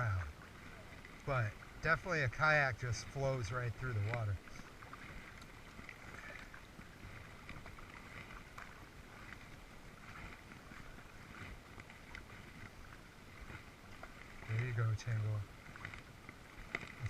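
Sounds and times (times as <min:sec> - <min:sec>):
paddle splashing in water: 0:00.0 - 0:17.0.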